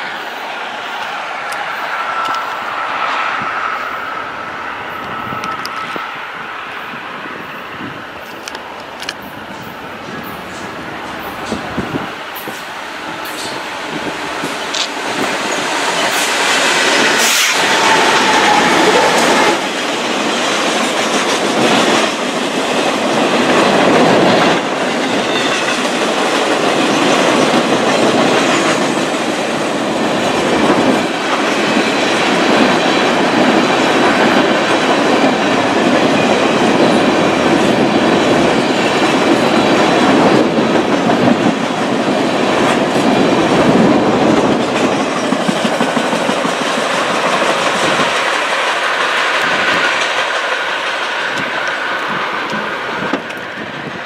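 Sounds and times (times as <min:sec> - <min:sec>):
diesel locomotives: 0:00.0 - 0:54.0
train wheels on track: 0:00.0 - 0:54.0.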